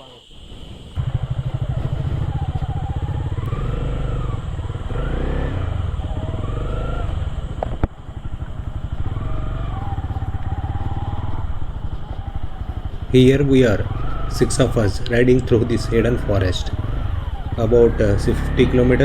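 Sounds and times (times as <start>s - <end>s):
motorcycle engine running: 1.0s - 19.0s.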